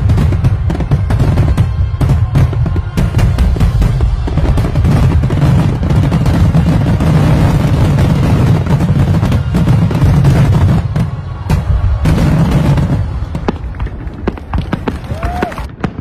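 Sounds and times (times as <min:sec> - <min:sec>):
fireworks booms: 0:00.0 - 0:16.0
fireworks crackling: 0:00.0 - 0:16.0.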